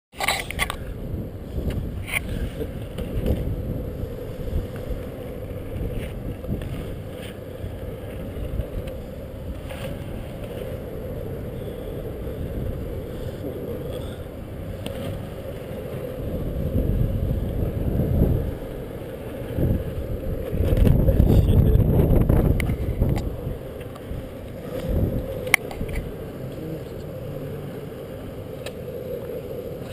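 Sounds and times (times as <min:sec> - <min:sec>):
longboard wheels rolling on concrete: 0:00.4 - 0:29.9.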